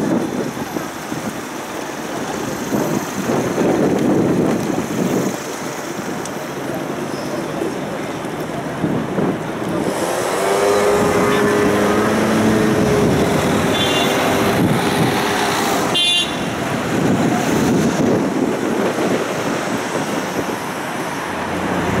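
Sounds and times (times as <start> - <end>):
tram rumble: 0.0 - 22.0.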